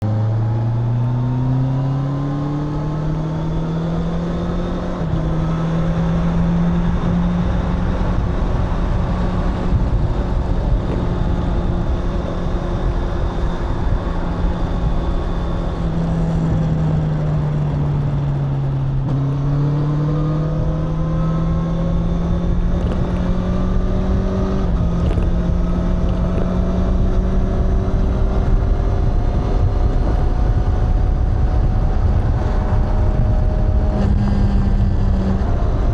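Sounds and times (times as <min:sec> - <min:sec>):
motorcycle engine revving: 0:00.0 - 0:35.9
steady rushing noise: 0:04.3 - 0:35.9.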